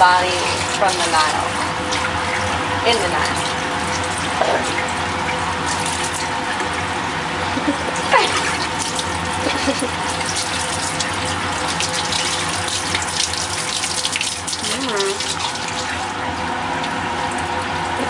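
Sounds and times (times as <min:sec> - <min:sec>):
hose water splashing into sink: 0:00.0 - 0:18.0.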